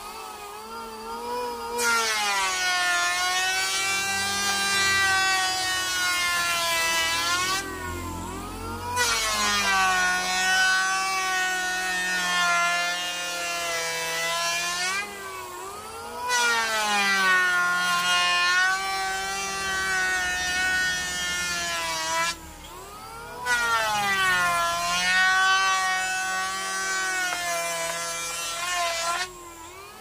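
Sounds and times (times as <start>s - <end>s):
electric planer whining: 0.0s - 30.0s
planer cutting wood hiss: 0.0s - 30.0s.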